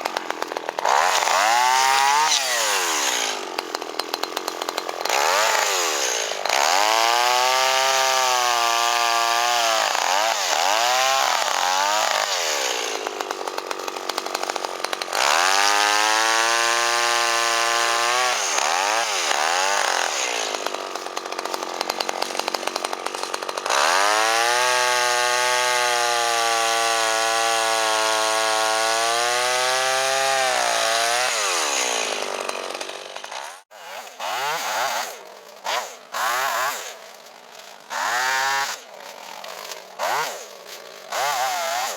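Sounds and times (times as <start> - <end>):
chainsaw cutting logs: 0.0 - 41.9.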